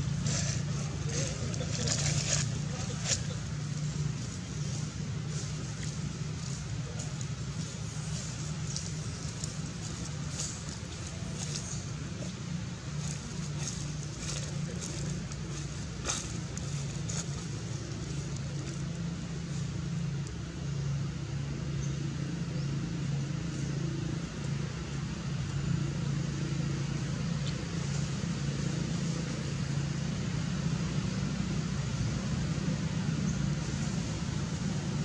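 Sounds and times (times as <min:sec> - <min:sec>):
engine humming: 0:00.0 - 0:35.0
outdoor background noise: 0:00.0 - 0:35.0.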